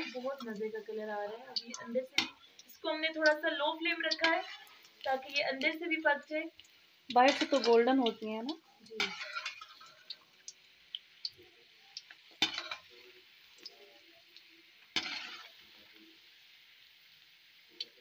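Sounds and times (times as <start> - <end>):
oil sizzling and popping: 0.0 - 18.0.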